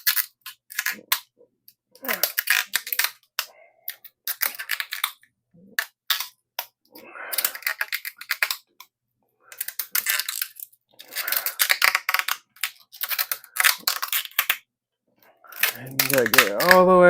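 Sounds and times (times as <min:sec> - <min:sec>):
rim tape crackling and clicking: 0:00.0 - 0:14.7, 0:15.4 - 0:17.0.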